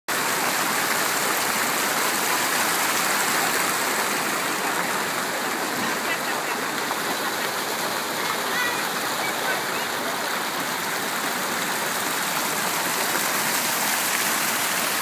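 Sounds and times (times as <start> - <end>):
fountain water splashing: 0.1 - 15.0.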